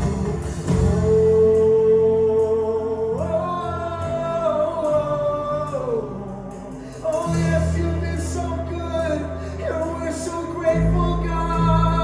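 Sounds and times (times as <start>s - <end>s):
band accompaniment: 0.0s - 12.0s.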